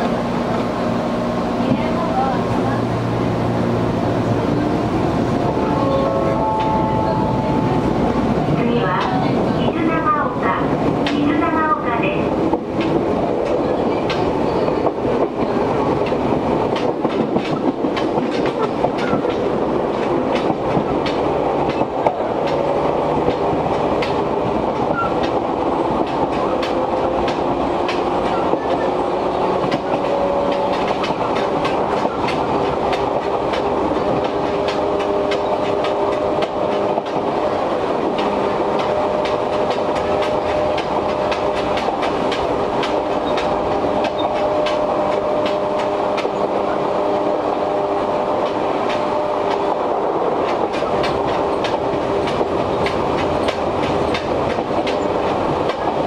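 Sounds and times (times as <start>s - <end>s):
electric train rumble: 0.0s - 56.0s
rail joint clicks and rattles: 0.0s - 56.0s.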